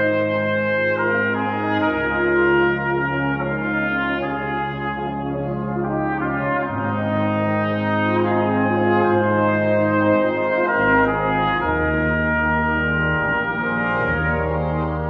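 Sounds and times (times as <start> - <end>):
brass ensemble playing chords: 0.0 - 15.0.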